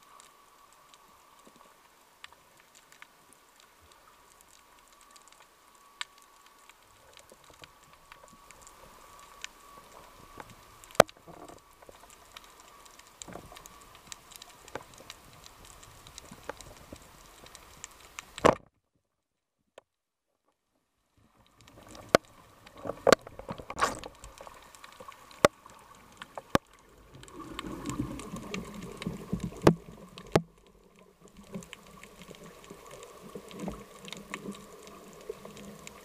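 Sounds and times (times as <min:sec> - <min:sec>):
faint steady hum: 0:00.0 - 0:18.4, 0:20.9 - 0:36.0
underwater clicks and crackles: 0:00.0 - 0:18.9, 0:21.2 - 0:36.0.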